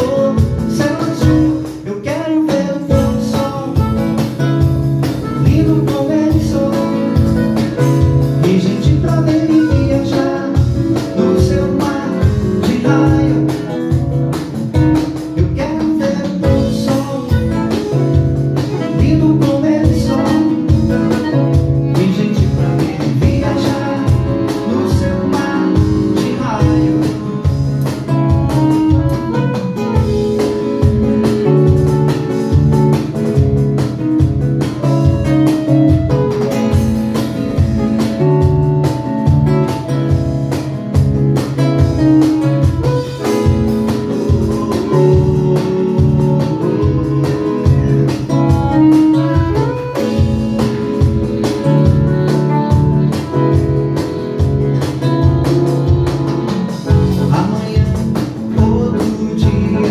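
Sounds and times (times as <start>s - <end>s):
live band with accordion and guitar: 0.0s - 59.9s.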